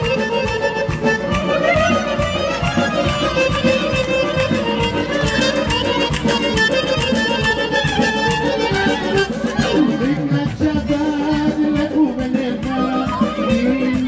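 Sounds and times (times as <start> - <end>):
fiddle melody: 0.0 - 14.0
steady beat: 0.0 - 14.0.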